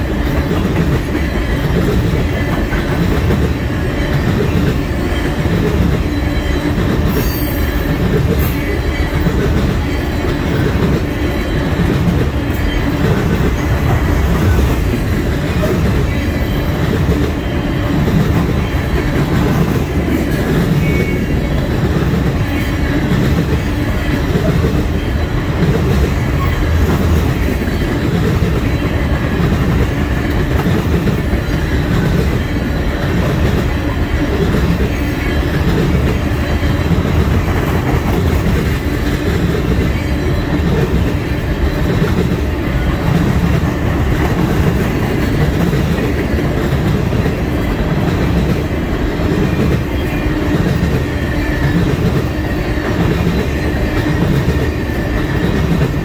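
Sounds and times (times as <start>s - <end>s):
rhythmic clickety-clack: 0.0s - 56.0s
train wheels rumbling on rails: 0.0s - 56.0s.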